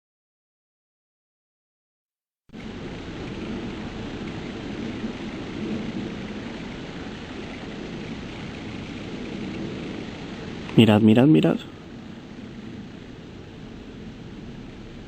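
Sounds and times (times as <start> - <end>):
airplane rumble overhead: 2.6 - 15.0.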